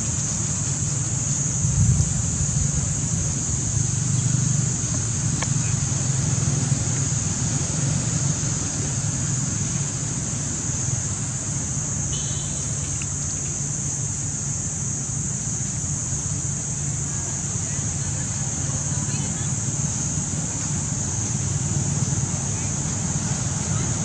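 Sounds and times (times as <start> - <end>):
high-pitched hiss: 0.0 - 24.0.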